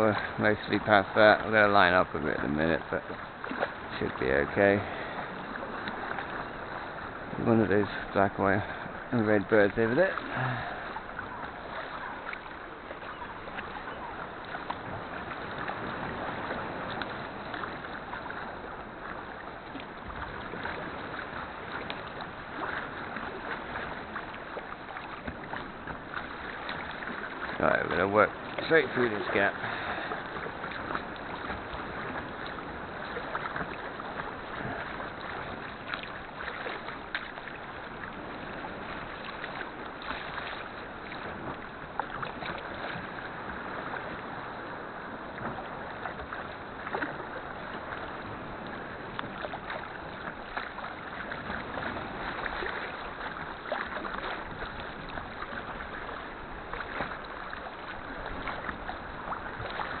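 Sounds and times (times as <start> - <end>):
paddle splashes: 0.0 - 60.0
wash of seawater: 0.0 - 60.0.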